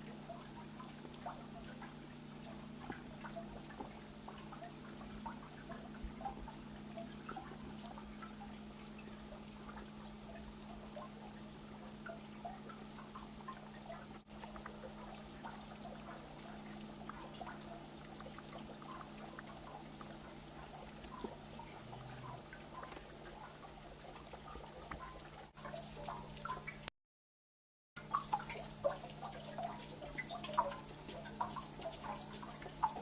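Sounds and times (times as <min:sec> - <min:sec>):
water trickling and dripping: 0:00.0 - 0:26.9, 0:28.0 - 0:33.0.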